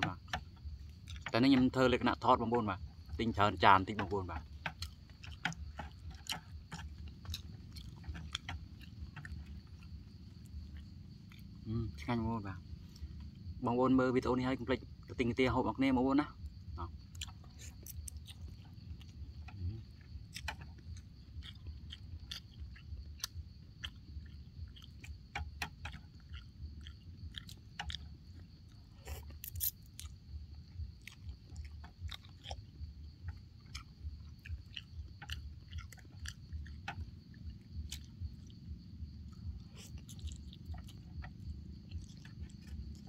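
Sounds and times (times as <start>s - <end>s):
person chewing and slurping noodles: 0.1s - 2.2s, 2.9s - 11.7s, 16.4s - 43.0s.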